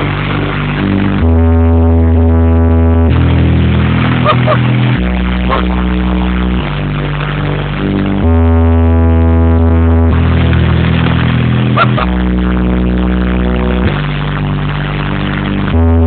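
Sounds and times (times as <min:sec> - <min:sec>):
subwoofer bass notes: 0:00.0 - 0:16.0.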